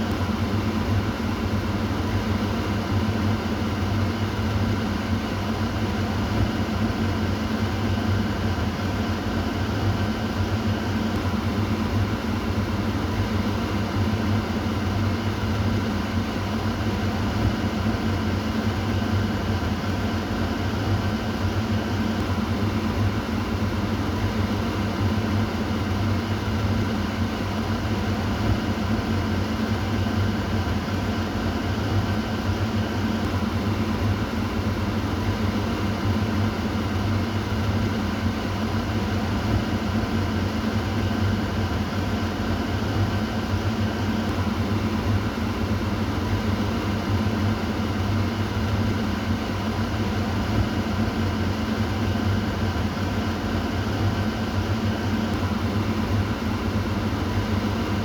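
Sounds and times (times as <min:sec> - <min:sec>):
kitchen exhaust fan humming: 0:00.0 - 0:58.0.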